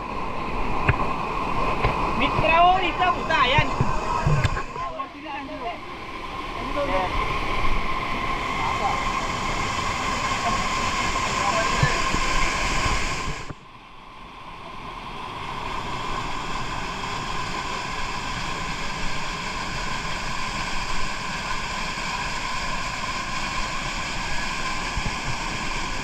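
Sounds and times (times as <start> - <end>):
waterfall rushing: 0.0 - 13.5, 14.2 - 26.0.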